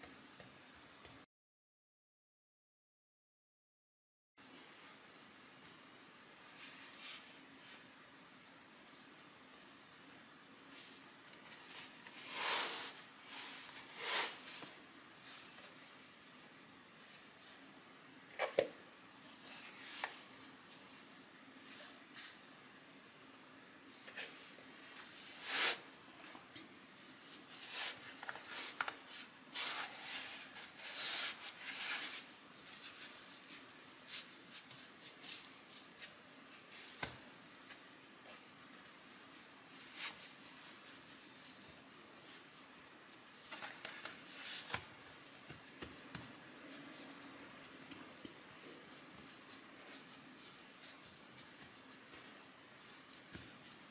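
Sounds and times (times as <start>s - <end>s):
hands kneading dough: 4.5s - 22.4s, 23.9s - 53.9s.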